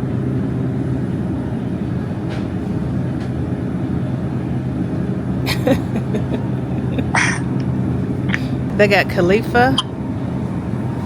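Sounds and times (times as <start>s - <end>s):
refrigeration and ventilation hum: 0.0s - 11.0s.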